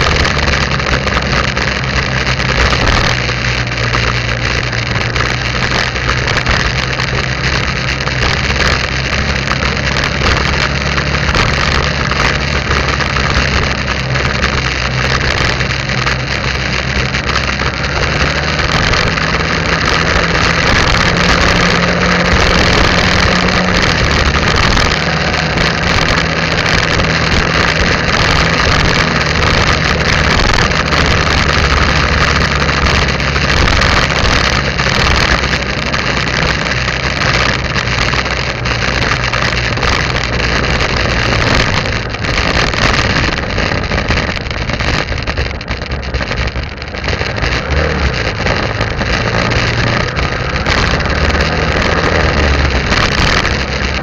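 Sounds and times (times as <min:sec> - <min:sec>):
motorbike engine running: 0:00.0 - 0:54.0
rushing noise: 0:00.0 - 0:54.0.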